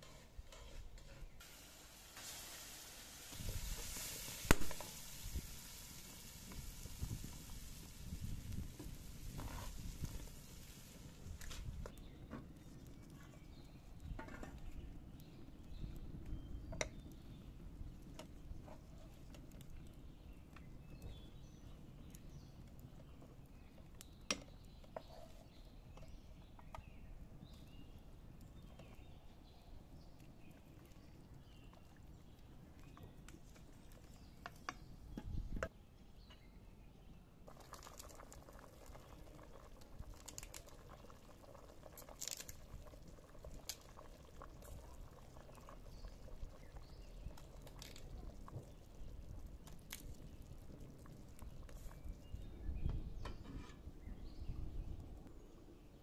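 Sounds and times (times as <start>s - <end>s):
stew bubbling in pot: 0.0s - 35.7s, 37.4s - 56.0s.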